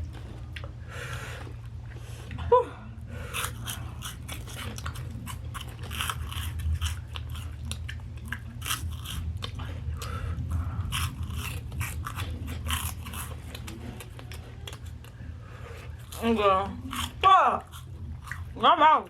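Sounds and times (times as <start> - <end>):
crunching and chewing snack: 3.2 - 18.6.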